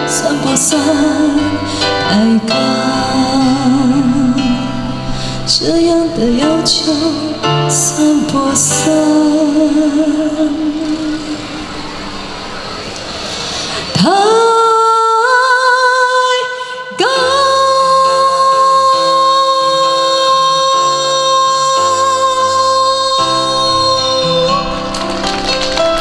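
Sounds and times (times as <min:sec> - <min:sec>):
woman singing pop ballad: 0:00.0 - 0:11.4, 0:13.5 - 0:24.9
electronic keyboard chords: 0:00.0 - 0:16.2, 0:17.0 - 0:26.0.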